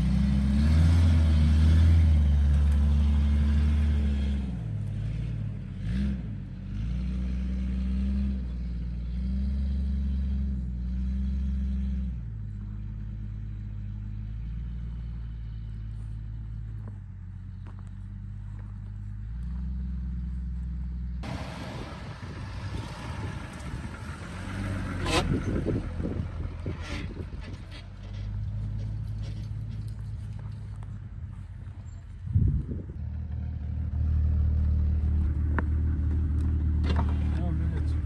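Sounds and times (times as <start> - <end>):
vehicle engine revving: 0.0 - 16.9, 17.6 - 38.0.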